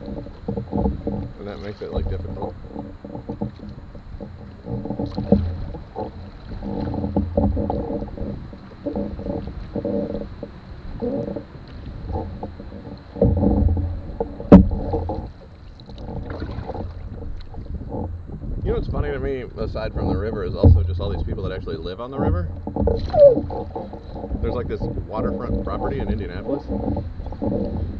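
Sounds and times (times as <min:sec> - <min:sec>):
hollow ringing canoe hull: 0:00.0 - 0:27.9
paddle slapping water: 0:00.0 - 0:27.9.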